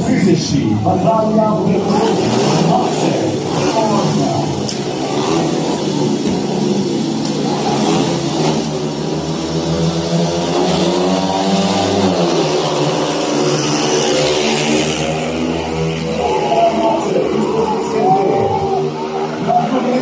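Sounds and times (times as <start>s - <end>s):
motorcycle engines revving: 0.0s - 20.0s
motorcycles accelerating away: 0.0s - 20.0s.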